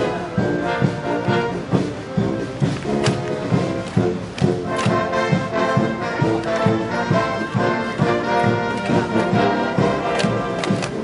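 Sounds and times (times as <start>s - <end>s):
military brass band march: 0.0s - 11.0s
steady drum beat: 0.0s - 11.0s.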